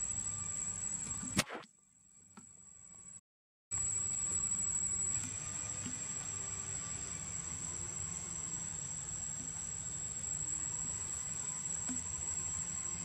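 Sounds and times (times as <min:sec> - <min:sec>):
insects whining: 0:00.0 - 0:03.2, 0:03.8 - 0:13.0.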